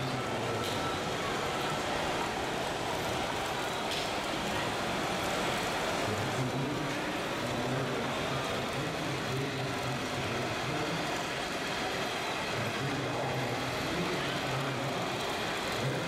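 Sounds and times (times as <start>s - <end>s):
noisy background: 0.0s - 16.0s.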